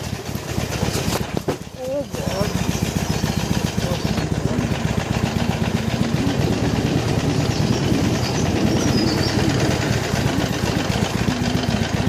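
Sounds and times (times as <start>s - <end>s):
motorcycle engine pulsing: 0.0s - 12.0s.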